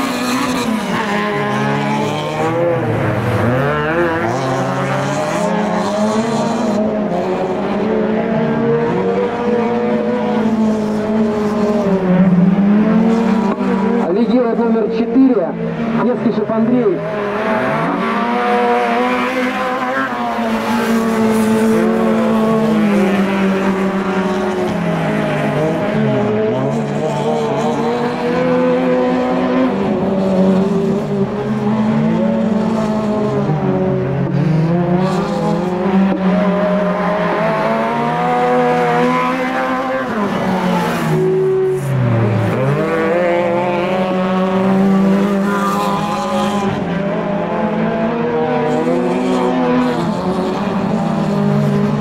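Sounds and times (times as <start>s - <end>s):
racing car engines revving: 0.0s - 52.0s.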